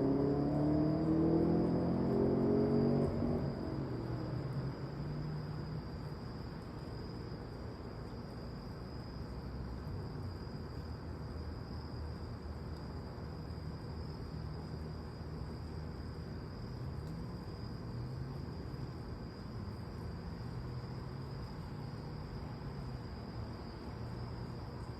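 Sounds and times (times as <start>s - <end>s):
night insects chirring: 0.0s - 24.9s.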